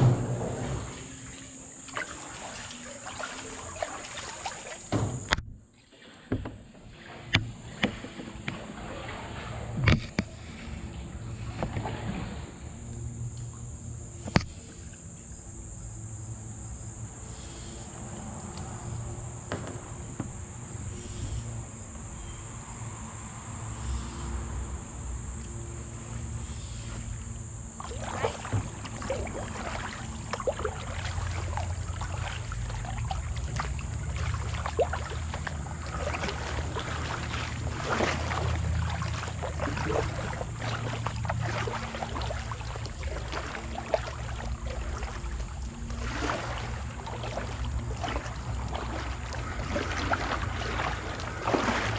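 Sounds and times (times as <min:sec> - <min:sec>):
insects chirring: 0:00.0 - 0:51.9
paddle splashes and drips: 0:00.0 - 0:51.9.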